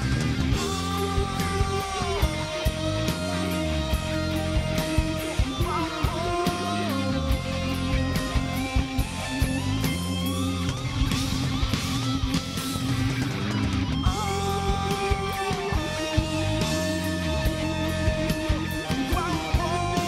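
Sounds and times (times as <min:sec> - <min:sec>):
drum and cymbal strokes: 0:00.0 - 0:20.0
rock band playing: 0:00.0 - 0:20.0
sliding electric guitar lead notes: 0:00.0 - 0:20.0.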